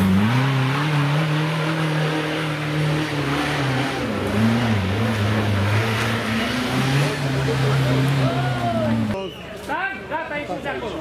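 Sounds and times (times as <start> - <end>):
engine revving: 0.0 - 9.2.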